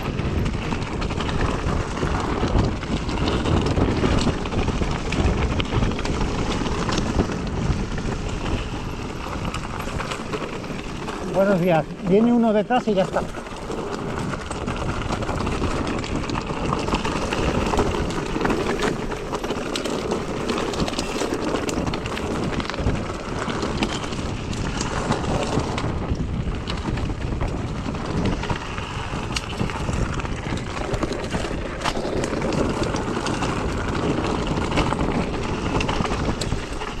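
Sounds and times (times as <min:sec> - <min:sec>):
bike clicks and knocks: 0:00.0 - 0:37.0
bike tyre noise: 0:00.0 - 0:37.0
wind rushing over microphone: 0:00.0 - 0:37.0.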